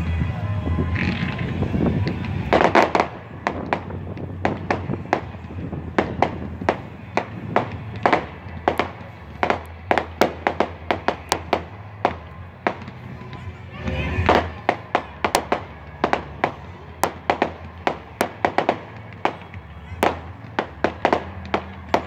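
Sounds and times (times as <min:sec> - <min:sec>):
fireworks popping: 0:00.8 - 0:22.0.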